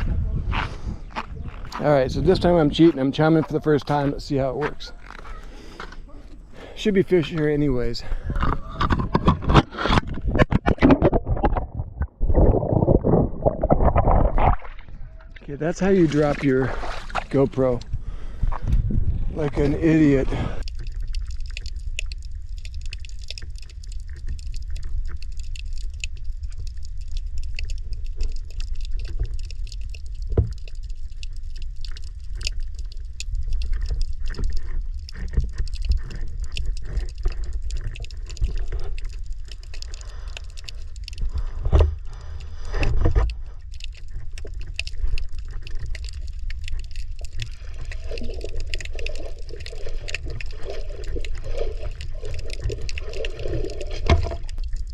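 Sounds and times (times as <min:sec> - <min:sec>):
small clicks and crackles: 0:01.2 - 0:12.1, 0:19.5 - 0:54.9
low underwater rumble: 0:08.1 - 0:54.9.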